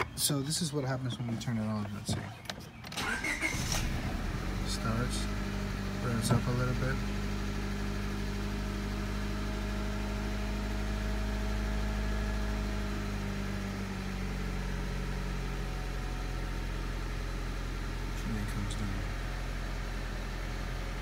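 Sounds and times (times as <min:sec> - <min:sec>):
car engine idling erratically: 0:00.0 - 0:21.0.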